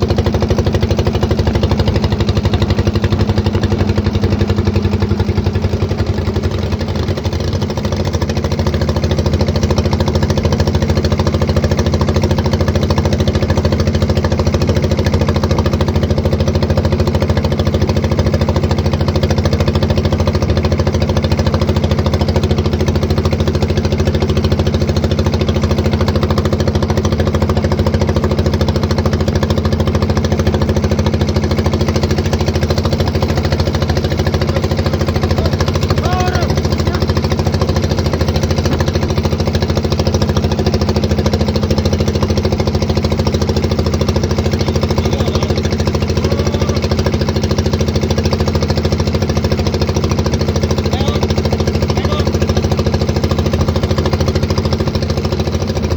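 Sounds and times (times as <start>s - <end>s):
boat engine knocking: 0.0s - 55.9s.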